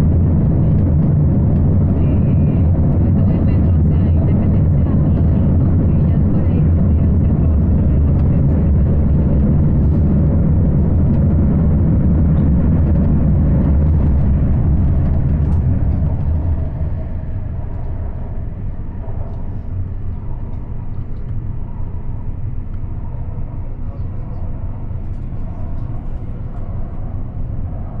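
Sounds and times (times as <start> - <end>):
metro train cabin rumble: 0.0 - 28.0.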